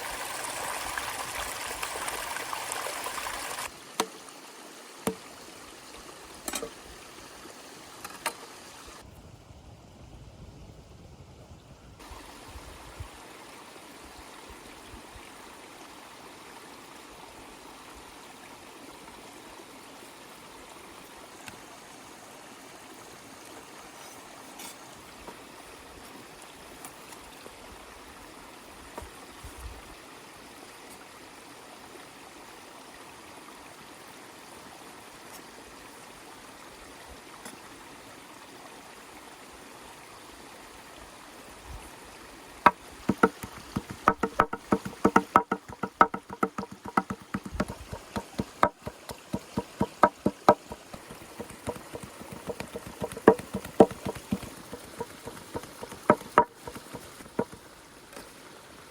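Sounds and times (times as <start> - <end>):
stream flowing: 0.0 - 9.1, 12.0 - 58.9.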